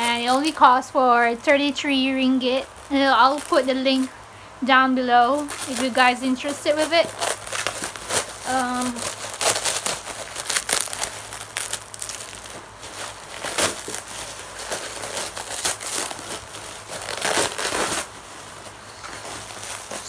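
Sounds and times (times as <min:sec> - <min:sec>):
plastic packaging crinkling: 0:00.0 - 0:04.3, 0:05.0 - 0:20.0.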